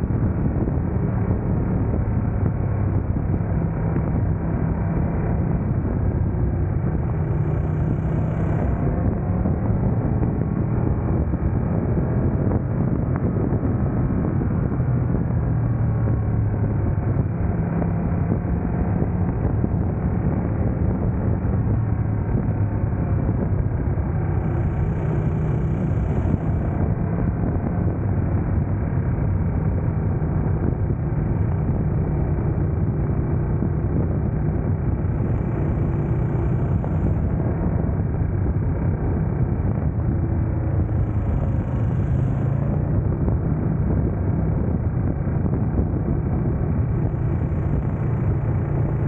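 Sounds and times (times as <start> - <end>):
motorcycle engine humming: 0.0 - 49.0
wind and road noise: 0.0 - 49.0.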